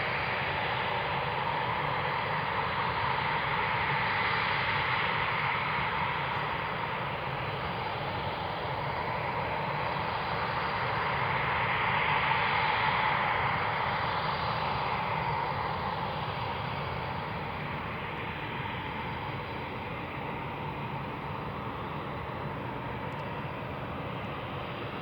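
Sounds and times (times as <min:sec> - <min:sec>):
jet engines taxiing: 0:00.0 - 0:25.0.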